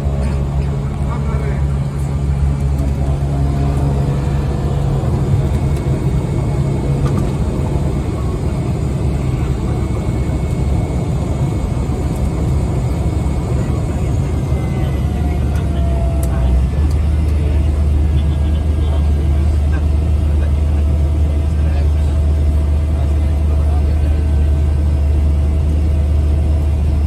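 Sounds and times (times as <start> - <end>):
propeller aircraft engine drone: 0.0 - 27.0.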